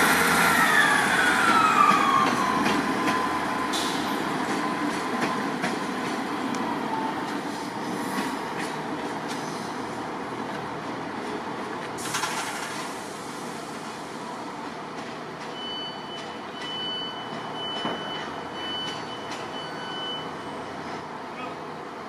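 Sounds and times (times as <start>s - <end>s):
diesel train running slowly: 0.0s - 22.0s.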